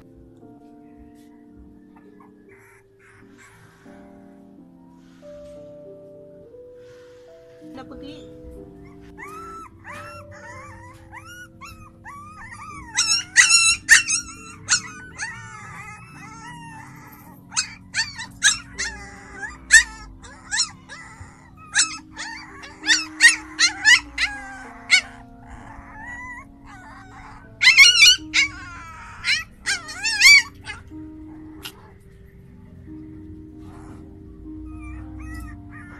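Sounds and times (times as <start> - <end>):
puppies yipping and whining: 0.0 - 5.7, 8.1 - 35.9
background music with held notes: 0.0 - 35.9.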